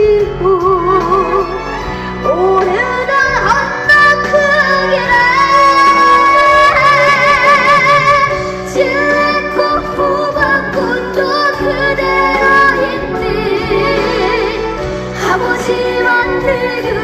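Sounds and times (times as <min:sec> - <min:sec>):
instrumental accompaniment: 0:00.0 - 0:17.0
girl singing with vibrato: 0:02.3 - 0:17.0.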